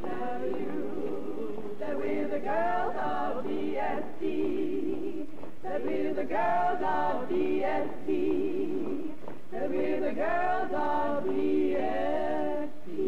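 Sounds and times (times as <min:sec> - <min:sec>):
women singing without instruments: 0:00.0 - 0:13.0.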